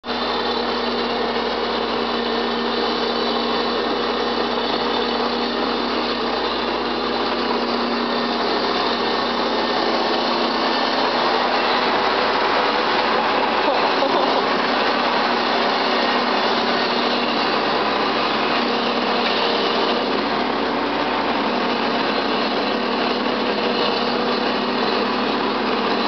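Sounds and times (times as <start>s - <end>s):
diesel engine droning under load: 0.0s - 26.0s.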